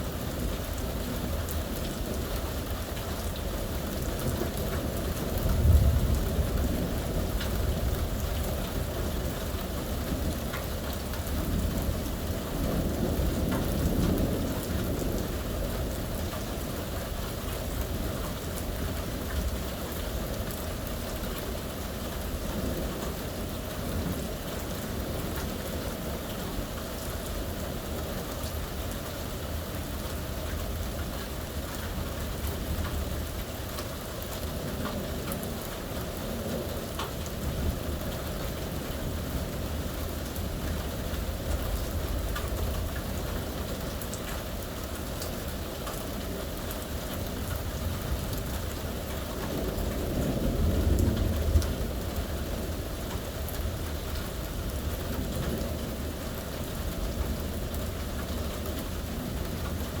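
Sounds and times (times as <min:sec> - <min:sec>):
steady rain falling: 0:00.0 - 1:00.0
low rolling thunder: 0:03.4 - 1:00.0.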